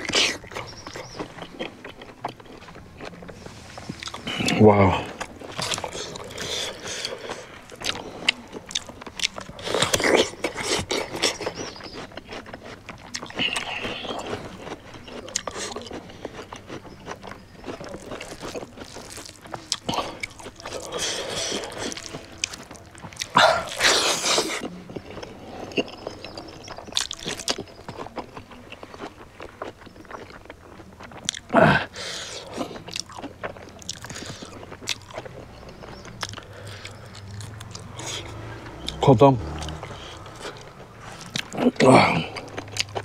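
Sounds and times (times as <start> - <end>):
person chewing: 0.0 - 43.0.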